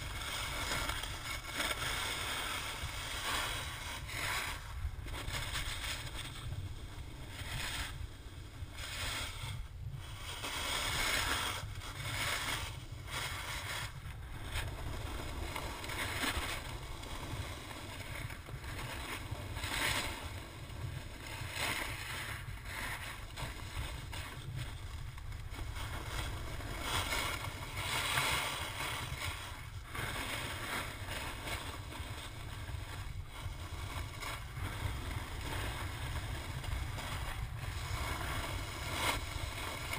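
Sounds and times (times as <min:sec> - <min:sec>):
snowboard scraping on snow: 0:00.0 - 0:39.9
wind rumble on microphone: 0:00.0 - 0:39.9.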